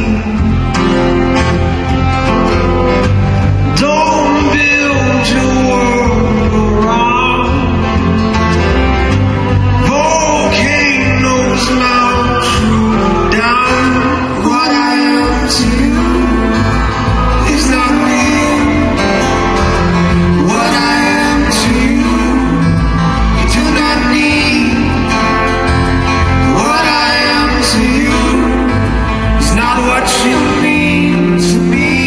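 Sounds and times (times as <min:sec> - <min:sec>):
man singing: 0:00.0 - 0:01.4, 0:03.5 - 0:08.4, 0:09.6 - 0:32.0
bass: 0:00.0 - 0:32.0
strummed acoustic guitar: 0:00.0 - 0:32.0.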